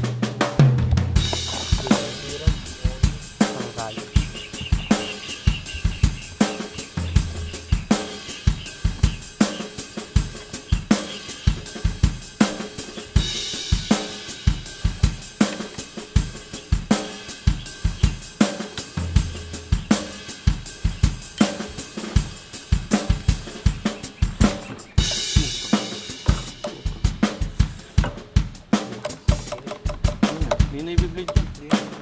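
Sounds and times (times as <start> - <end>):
drum kit beat: 0.0 - 32.0.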